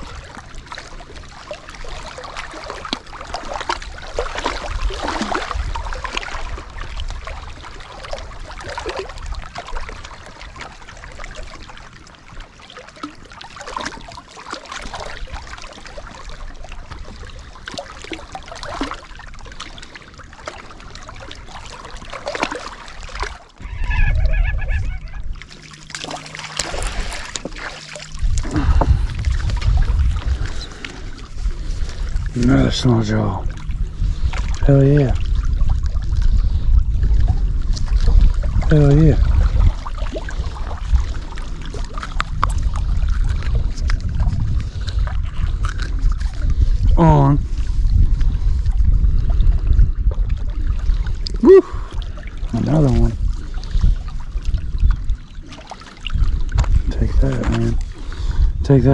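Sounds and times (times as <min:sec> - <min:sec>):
small splashes: 0:00.0 - 0:36.6, 0:37.2 - 0:48.7
water lapping against rocks: 0:00.0 - 0:58.9
wind rumbling on microphone: 0:00.0 - 0:58.9.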